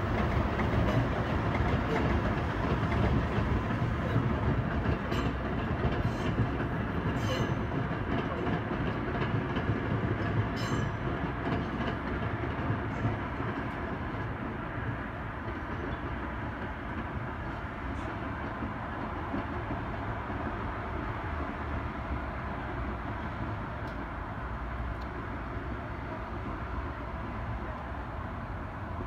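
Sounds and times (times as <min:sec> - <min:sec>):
trains rumbling past: 0:00.0 - 0:29.0.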